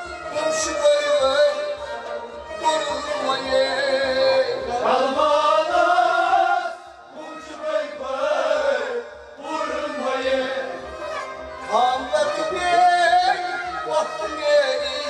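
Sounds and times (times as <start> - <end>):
man singing chant-like melody: 0.0 - 10.9, 11.6 - 15.0.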